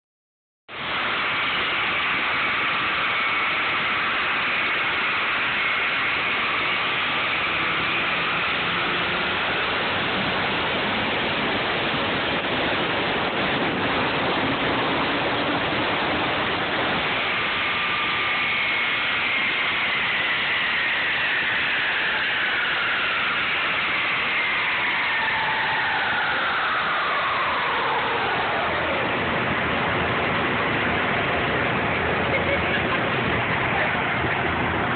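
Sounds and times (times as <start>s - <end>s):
distorted engine hiss: 0.7s - 34.9s
whine falling in pitch: 0.7s - 34.9s.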